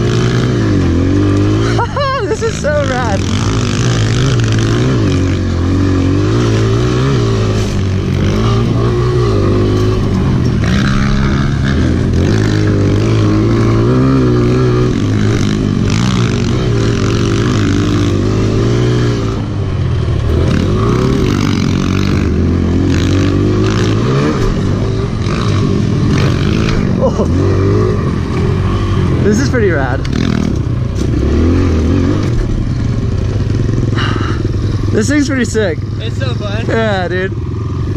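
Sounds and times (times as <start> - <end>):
motorbike engine revving: 0.0 - 37.9.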